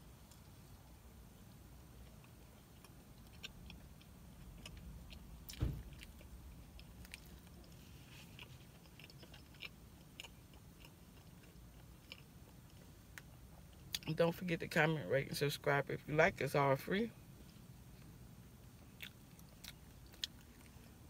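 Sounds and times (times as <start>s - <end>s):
person chewing crispy food: 0.2s - 14.1s, 18.0s - 21.0s.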